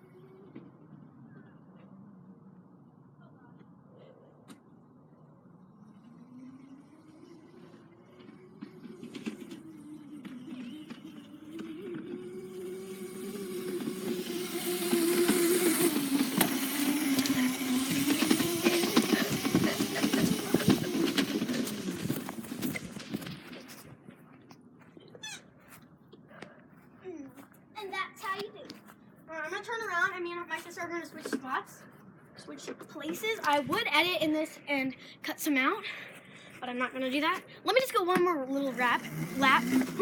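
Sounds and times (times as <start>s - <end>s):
faint dirt bike engine: 0.0s - 40.0s.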